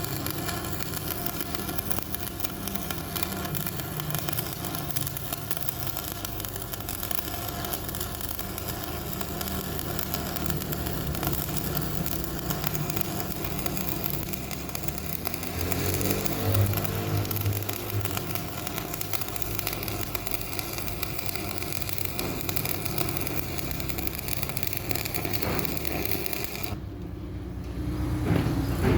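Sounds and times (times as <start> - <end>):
welding arc crackling: 0.0 - 26.9
welding machine hum: 0.0 - 27.4.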